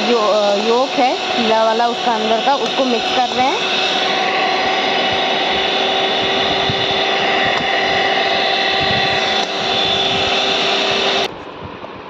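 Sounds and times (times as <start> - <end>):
electric hand mixer whine: 0.0 - 11.3.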